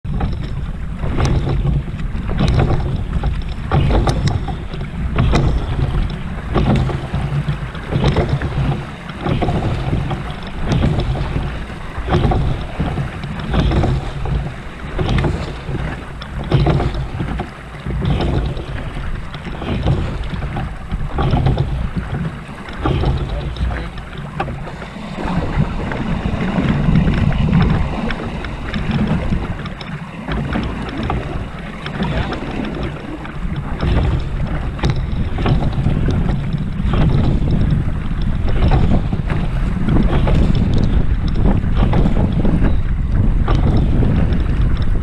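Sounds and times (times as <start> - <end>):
oars knocking in oarlocks: 0.0 - 45.0
water rushing along hull: 0.0 - 45.0
water swelling with oar strokes: 0.0 - 45.0
wind on microphone: 0.0 - 45.0.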